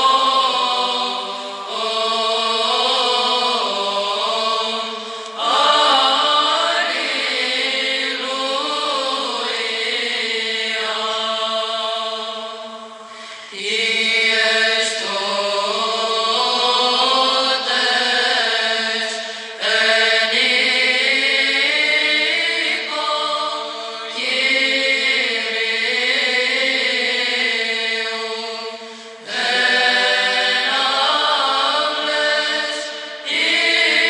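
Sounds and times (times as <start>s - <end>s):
voices chanting slow melody: 0.0s - 34.0s.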